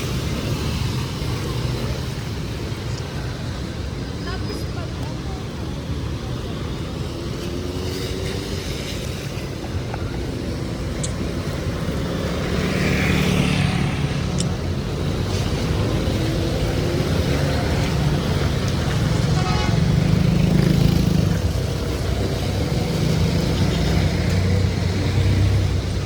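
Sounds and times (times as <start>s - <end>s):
rain: 0.0s - 26.0s
street noise: 0.0s - 26.0s.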